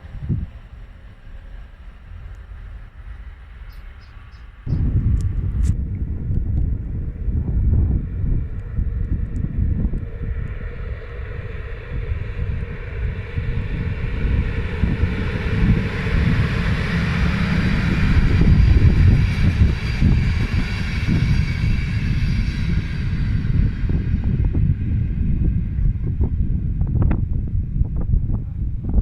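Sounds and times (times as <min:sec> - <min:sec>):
train passing: 0:00.0 - 0:28.1
wind buffeting microphone: 0:00.0 - 0:29.0.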